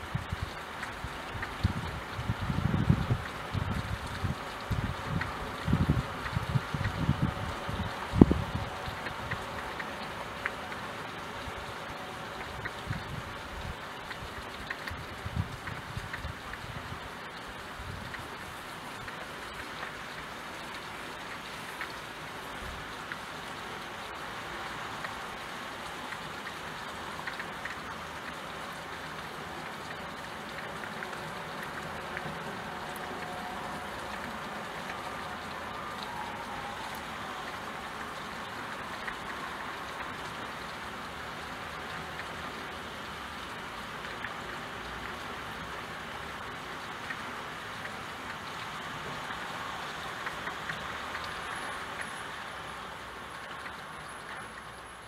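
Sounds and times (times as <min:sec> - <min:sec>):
raindrop taps: 0:00.0 - 0:52.2, 0:53.2 - 0:54.9
steady rain: 0:00.0 - 0:55.0.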